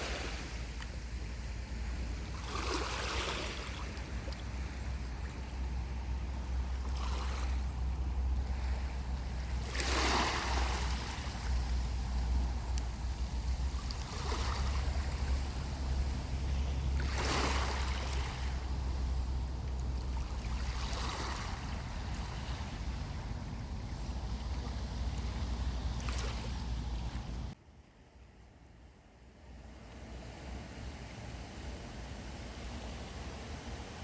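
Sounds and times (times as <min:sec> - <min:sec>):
sea waves breaking: 0:00.0 - 0:27.6
steady low rumble: 0:00.0 - 0:34.0.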